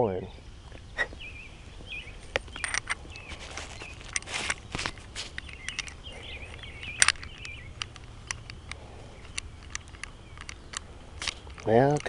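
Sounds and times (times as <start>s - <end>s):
pistol metallic clicks and scrapes: 2.3s - 12.0s.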